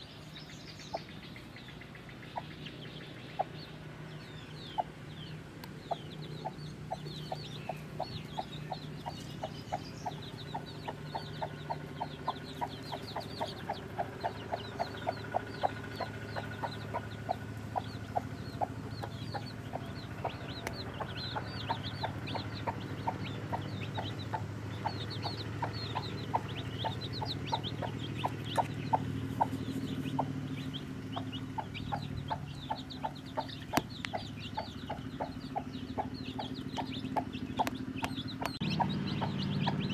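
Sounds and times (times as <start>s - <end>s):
chicks cheeping: 0.0s - 39.9s
hen clucking: 0.9s - 5.0s, 5.6s - 39.9s.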